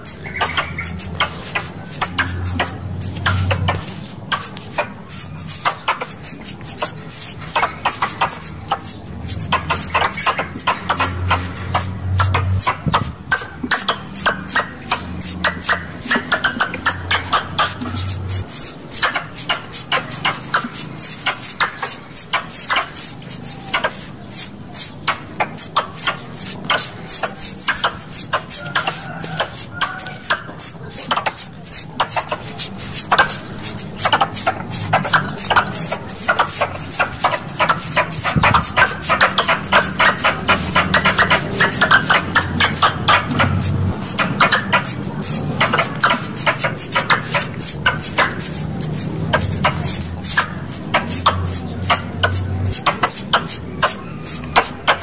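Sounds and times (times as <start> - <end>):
squirrel chattering calls: 0.0 - 55.0.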